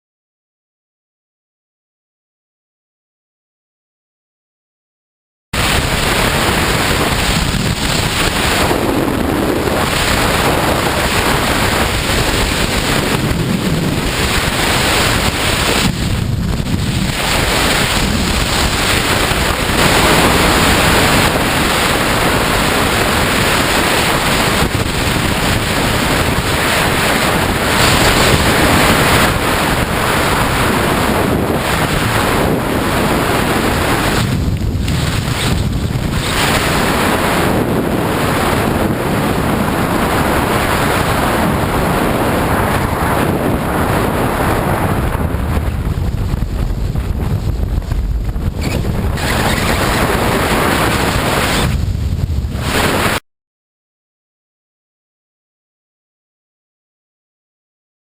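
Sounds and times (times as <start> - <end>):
wind roaring on microphone: 5.6 - 53.2.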